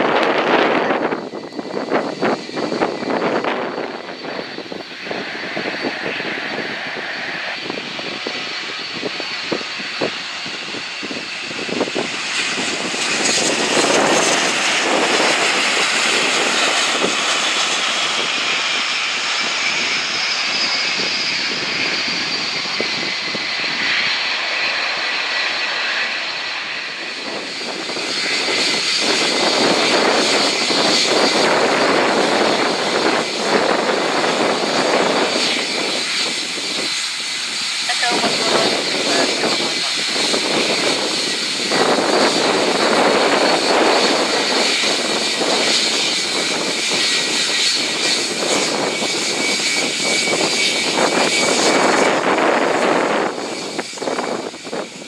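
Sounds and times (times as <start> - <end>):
jet airliner landing: 0.0 - 55.0
jet engines before takeoff: 0.0 - 55.0.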